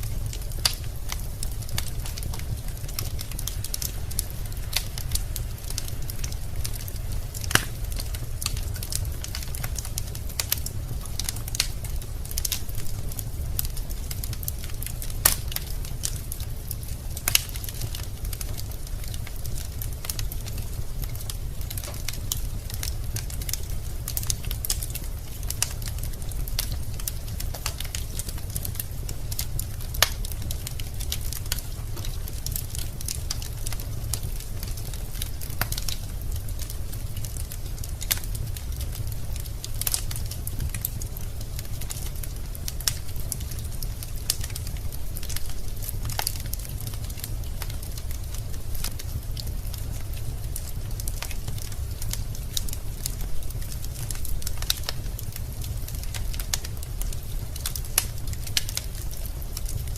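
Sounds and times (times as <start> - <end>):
fire crackles and pops: 0.0 - 59.9
loud fire snaps: 0.0 - 59.9
low fire rumble: 0.0 - 59.9.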